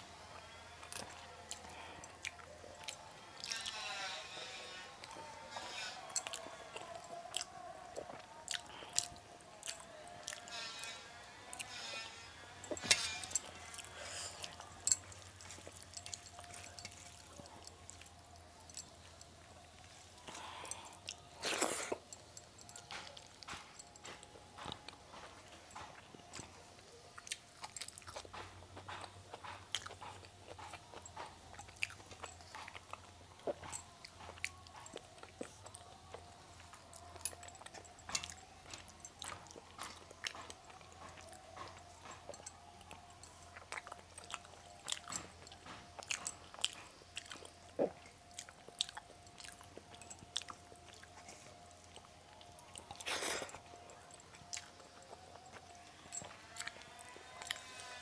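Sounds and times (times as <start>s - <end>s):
person chewing food: 0.2s - 58.0s
faint steady hum: 4.2s - 58.0s.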